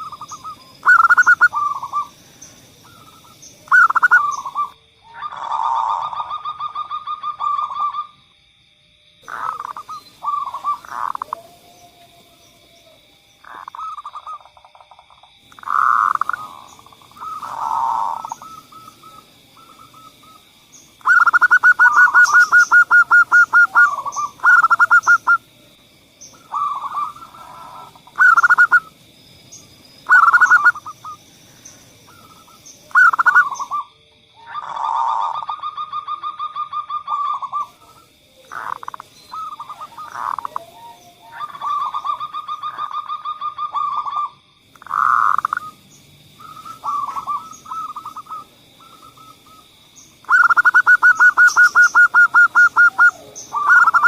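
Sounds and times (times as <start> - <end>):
dove cooing: 0.0 - 2.2, 2.8 - 8.1, 9.3 - 14.6, 15.6 - 20.4, 21.0 - 25.4, 26.3 - 28.9, 30.1 - 31.2, 32.1 - 33.8, 34.4 - 45.8, 46.4 - 49.6, 50.2 - 54.0.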